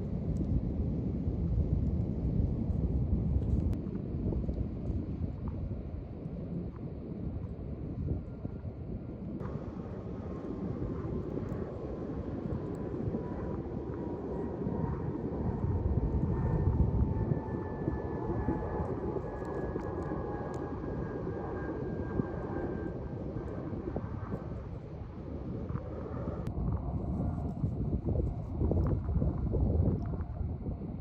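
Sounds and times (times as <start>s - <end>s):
airplane engine drone: 0.0s - 31.0s
wind rumbling on microphone: 0.0s - 31.0s.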